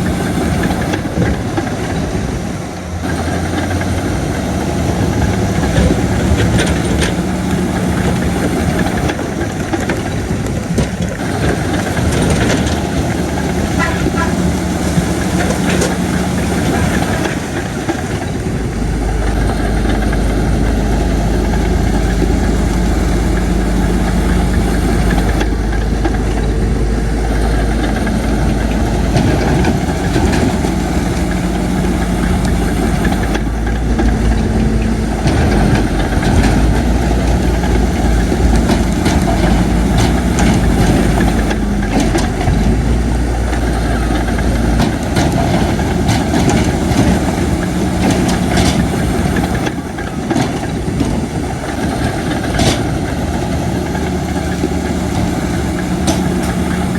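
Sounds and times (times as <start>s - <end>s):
heavy diesel engine humming: 0.0s - 56.9s.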